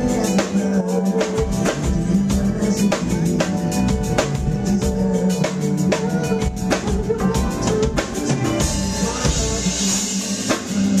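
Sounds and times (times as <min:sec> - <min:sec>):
live soul band playing: 0:00.0 - 0:11.0.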